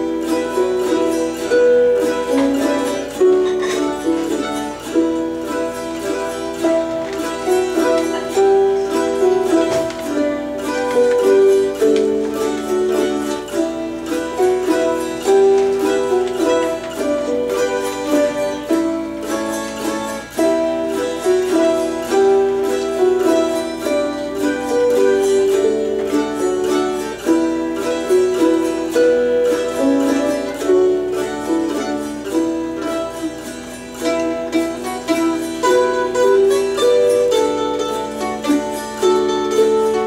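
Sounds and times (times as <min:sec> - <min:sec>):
autoharp: 0:00.0 - 0:40.0
lever harp: 0:00.0 - 0:40.0
mandolin: 0:00.0 - 0:40.0.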